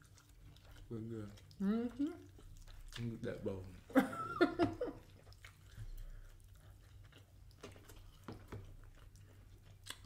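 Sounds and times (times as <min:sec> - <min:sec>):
chewing fries: 0:00.0 - 0:10.0.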